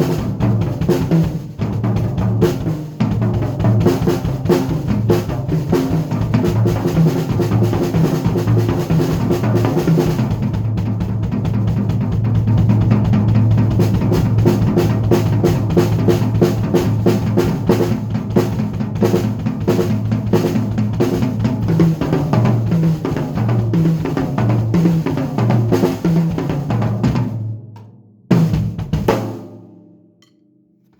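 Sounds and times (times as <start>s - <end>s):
drum kit playing: 0.0s - 30.4s.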